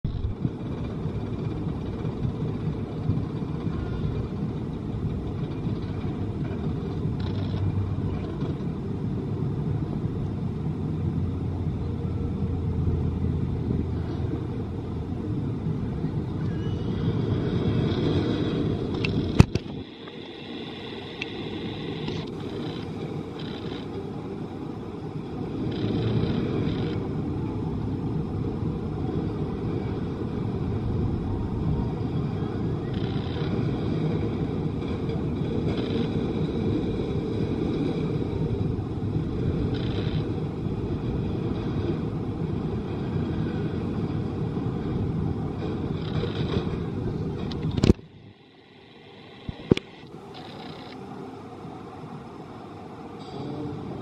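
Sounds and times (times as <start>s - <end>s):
roller coaster train rumbling: 0.0s - 54.0s.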